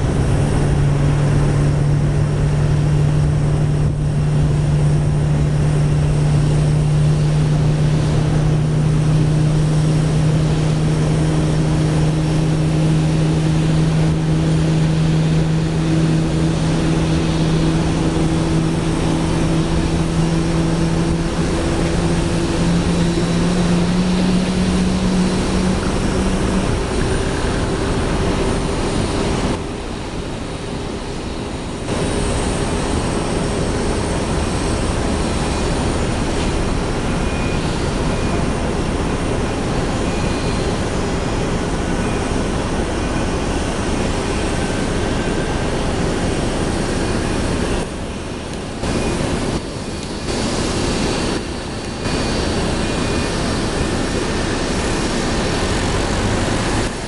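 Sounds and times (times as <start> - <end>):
low steady hum: 0.0 - 56.9
jet engine whine and rumble: 0.0 - 57.0.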